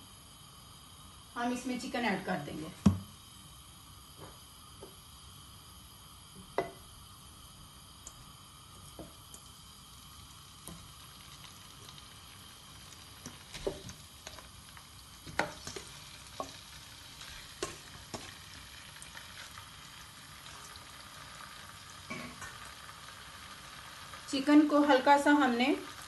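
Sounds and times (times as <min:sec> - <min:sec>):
oil sizzling: 0:00.0 - 0:26.0.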